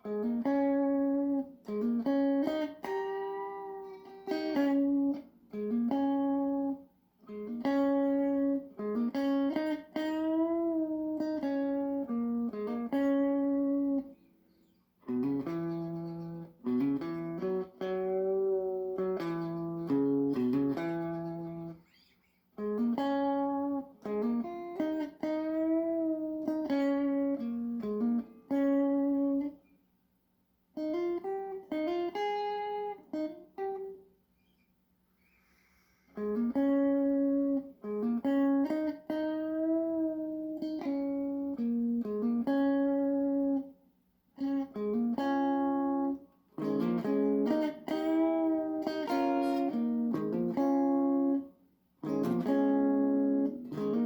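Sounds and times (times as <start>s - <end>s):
guitar playing bending notes: 0.0s - 29.6s, 30.8s - 34.6s, 36.2s - 43.7s, 44.4s - 54.0s.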